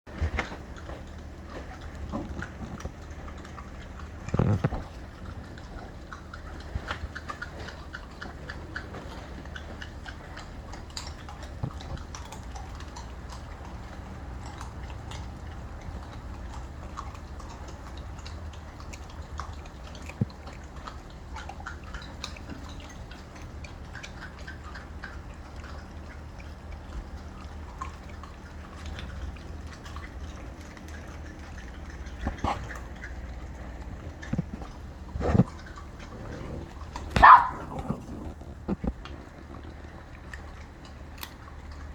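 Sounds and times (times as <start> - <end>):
puppies chewing meat and bone: 0.1 - 41.9
steady low hum: 0.1 - 41.9.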